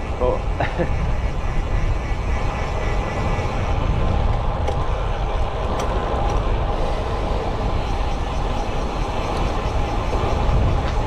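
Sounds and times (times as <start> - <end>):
rushing wind and road noise: 0.0 - 11.0.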